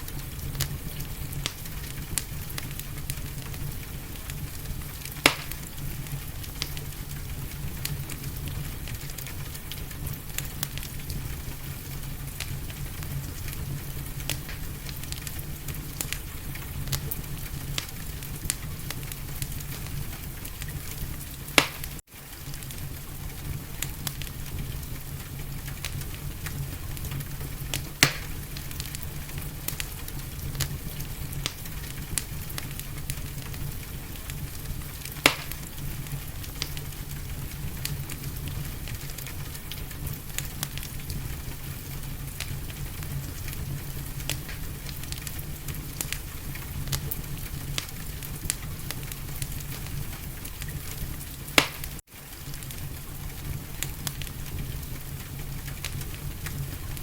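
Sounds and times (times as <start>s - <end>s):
fire crackling: 0.0s - 57.0s
loud fire pops: 0.0s - 57.0s
low rumble of flames: 0.0s - 57.0s.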